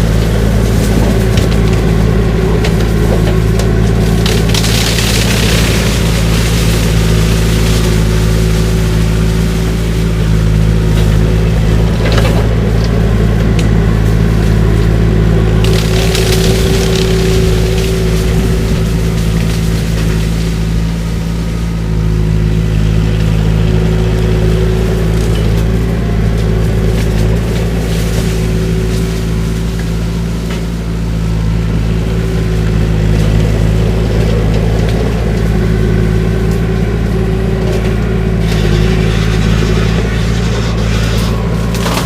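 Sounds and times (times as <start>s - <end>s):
engine at high throttle: 0.0s - 42.0s
shredder cutting cane: 0.0s - 42.0s.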